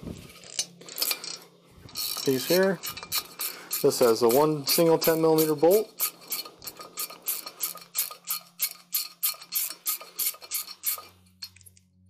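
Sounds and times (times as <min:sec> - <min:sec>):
socket ratchet clicking: 0:00.5 - 0:11.7.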